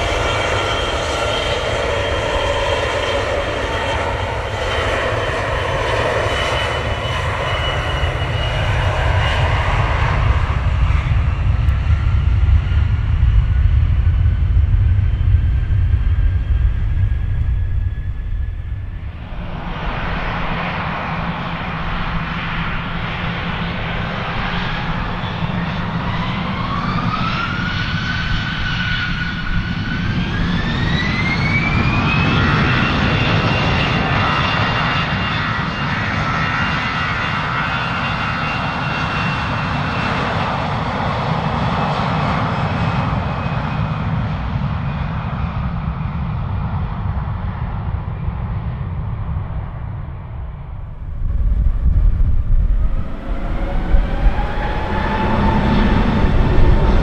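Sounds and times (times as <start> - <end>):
jet engines spooling up: 0.0 - 45.7, 47.9 - 57.0.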